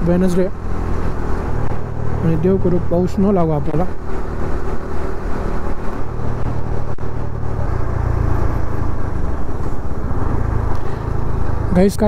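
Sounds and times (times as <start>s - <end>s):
motorcycle engine cruising: 0.0s - 12.0s
road noise: 0.0s - 12.0s.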